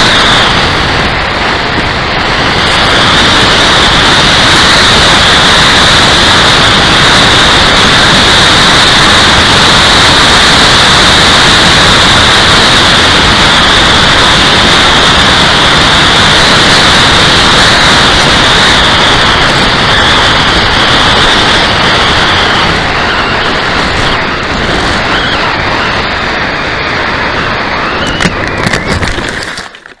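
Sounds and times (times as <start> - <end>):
high whine of electric motor: 0.0 - 30.0
wind rush over microphone: 0.0 - 30.0.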